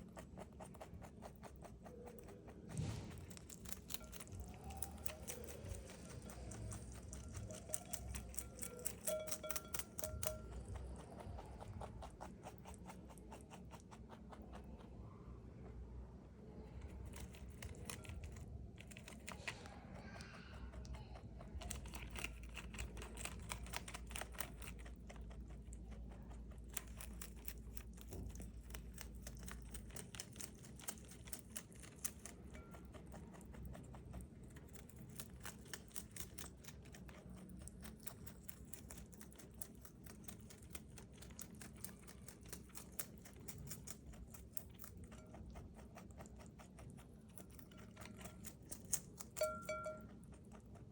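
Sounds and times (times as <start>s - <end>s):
rabbit chewing crunchy leaves: 0.0s - 50.9s
low hum: 2.1s - 13.5s, 14.3s - 50.8s.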